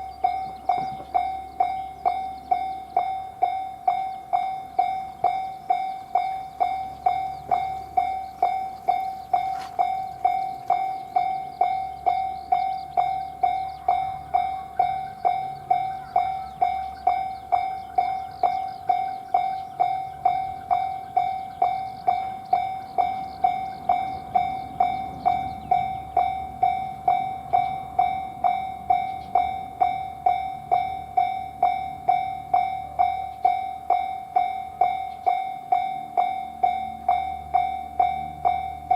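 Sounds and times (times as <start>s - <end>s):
railroad crossing bell ringing: 0.0s - 38.9s
train rumble: 0.0s - 38.9s.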